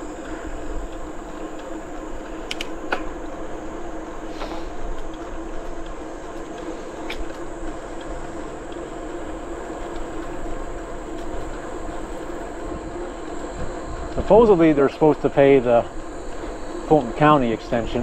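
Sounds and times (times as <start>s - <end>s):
bicycle rolling on pavement: 0.0s - 18.0s
insect drone: 0.0s - 18.0s.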